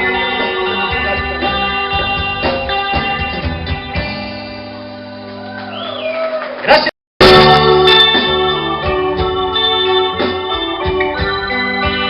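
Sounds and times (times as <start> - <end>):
band playing: 0.0 - 12.0.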